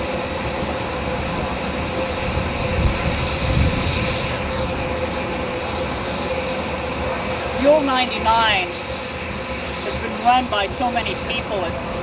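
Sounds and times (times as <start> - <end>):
steam locomotive hiss and rumble: 0.0 - 12.0.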